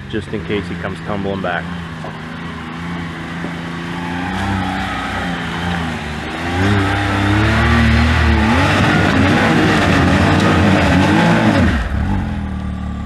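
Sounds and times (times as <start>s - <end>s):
utv engine revving: 0.0s - 13.0s.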